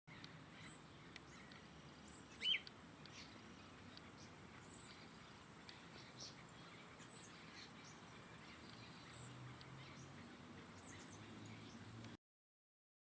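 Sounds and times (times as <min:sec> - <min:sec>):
birds chirping: 0:00.1 - 0:12.2
faint background noise: 0:00.1 - 0:12.2.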